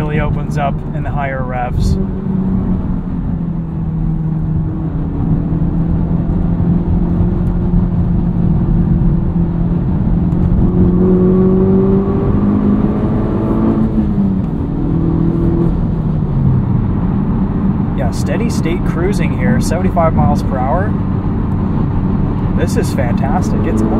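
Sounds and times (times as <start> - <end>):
car engine droning from inside cabin: 0.0 - 23.9.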